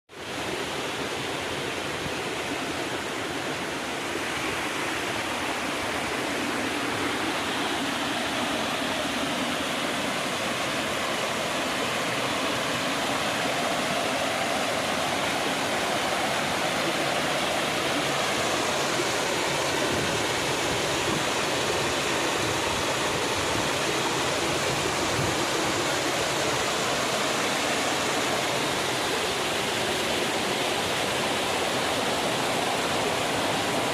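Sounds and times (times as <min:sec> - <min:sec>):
small waterfall splashing into pool: 0:00.1 - 0:33.9.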